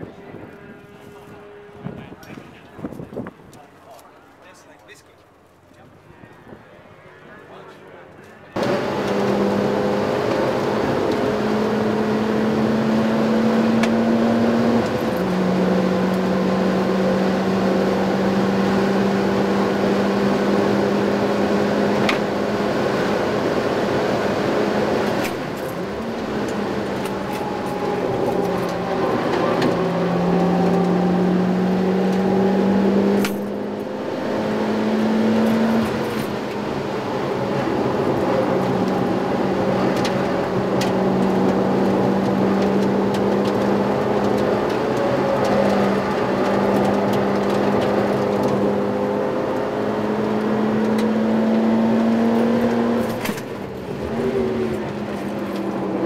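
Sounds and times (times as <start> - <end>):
car engine running hard: 8.3 - 56.0.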